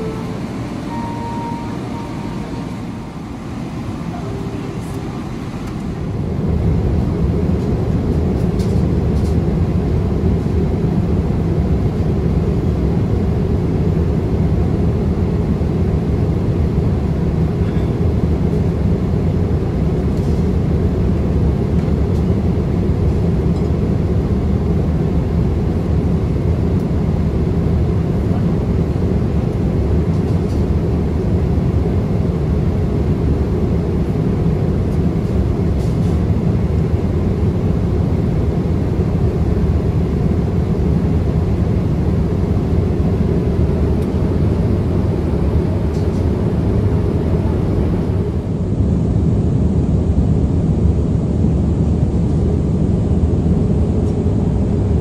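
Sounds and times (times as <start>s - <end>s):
jet airliner cabin noise: 0.0s - 55.0s.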